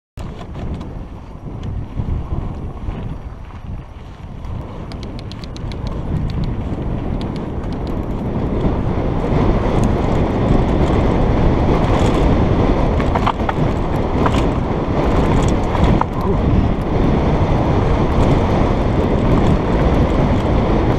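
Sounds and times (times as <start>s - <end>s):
bike tyres rolling over dirt: 0.2s - 20.9s
stones and bike rattling: 0.2s - 20.9s
wind buffeting microphone: 0.2s - 20.9s.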